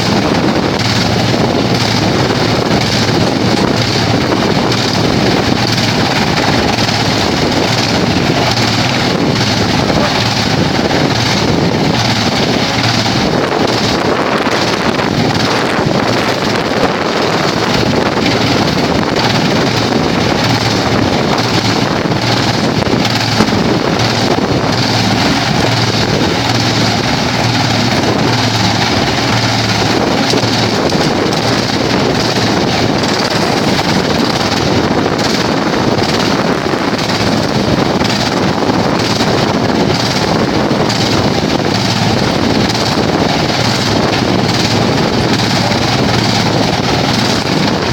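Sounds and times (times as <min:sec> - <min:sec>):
wood chipper running: 0:00.0 - 0:47.9.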